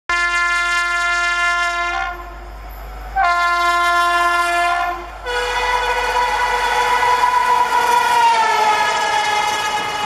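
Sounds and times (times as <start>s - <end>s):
train air horn blasts: 0.1s - 2.4s, 3.2s - 10.0s.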